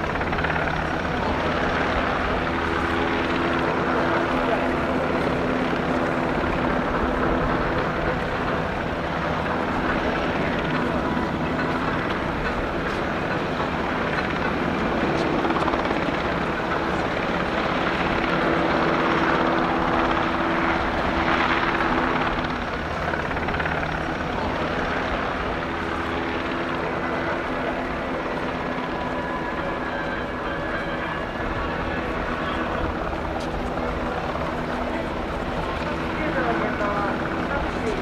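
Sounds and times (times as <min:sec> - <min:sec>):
helicopter rotor and engines: 0:00.0 - 0:38.0.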